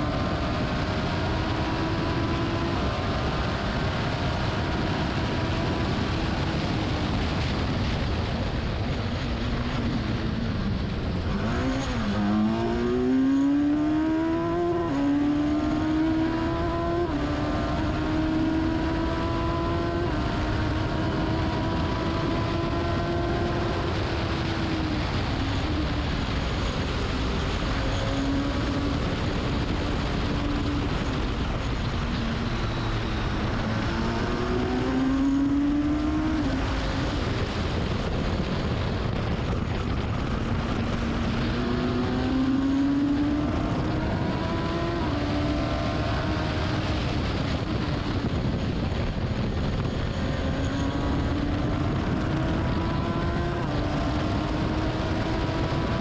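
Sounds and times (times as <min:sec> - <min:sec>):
racing car engine accelerating: 0:00.0 - 0:08.0, 0:09.4 - 0:56.0
wind and tyre noise: 0:00.0 - 0:56.0.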